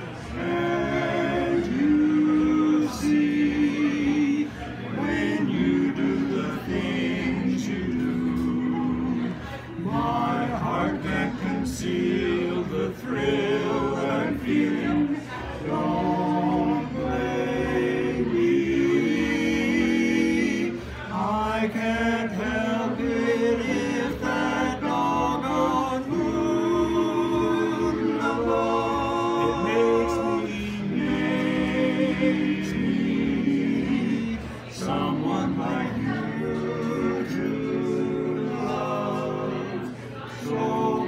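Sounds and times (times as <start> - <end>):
male vocal quartet singing: 0.0 - 41.0.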